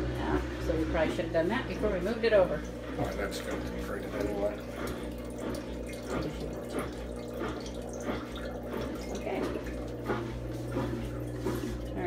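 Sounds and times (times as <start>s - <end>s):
drain pump humming: 0.0s - 12.0s
water trickling into toilet bowl: 2.2s - 12.0s.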